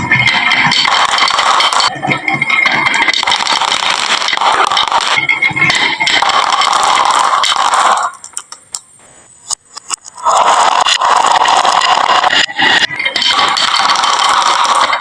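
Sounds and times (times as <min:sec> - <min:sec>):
glass marbles rolling down wood: 0:00.0 - 0:08.5, 0:10.0 - 0:15.0
marble clicks: 0:00.0 - 0:15.0.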